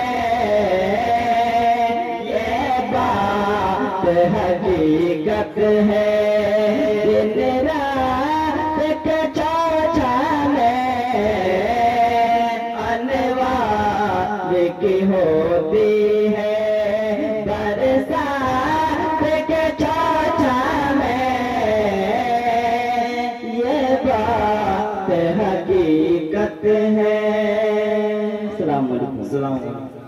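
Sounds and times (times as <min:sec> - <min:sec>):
two men singing: 0:00.0 - 0:28.6.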